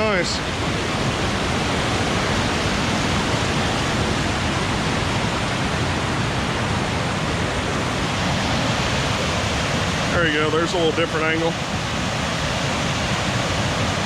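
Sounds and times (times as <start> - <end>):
creek and waterfall rushing: 0.0 - 14.0.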